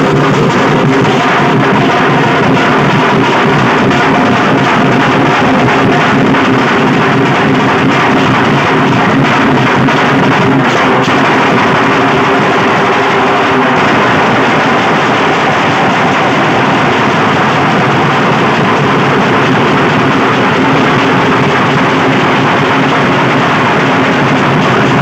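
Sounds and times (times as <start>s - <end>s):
barrel drums beaten loudly: 0.0s - 25.0s.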